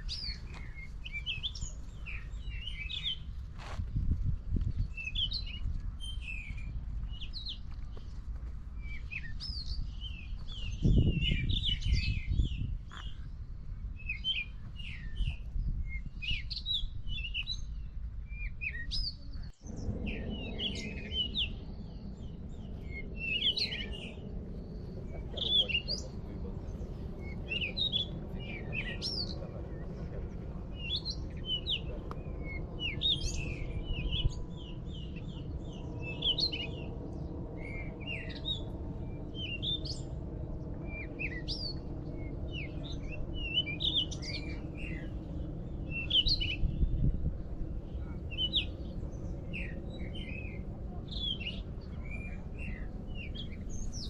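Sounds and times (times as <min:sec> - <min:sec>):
low rumble: 0:00.0 - 0:54.0
small birds chirping: 0:00.0 - 0:54.0.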